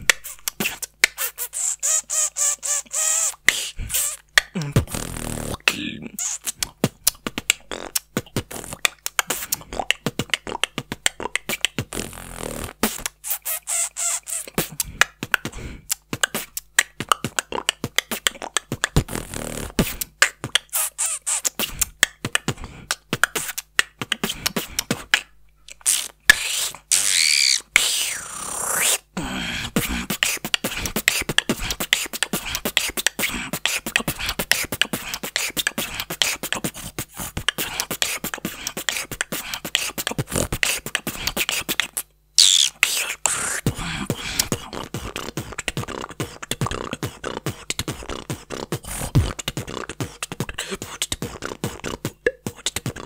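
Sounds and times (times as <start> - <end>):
beatboxing mouth percussion: 0.0 - 53.0.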